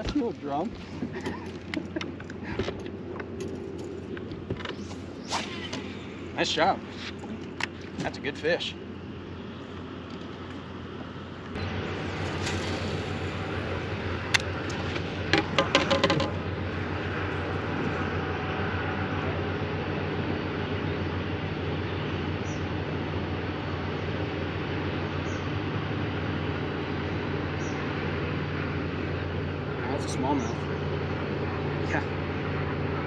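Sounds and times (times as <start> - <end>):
boat motor running: 0.0 - 33.0.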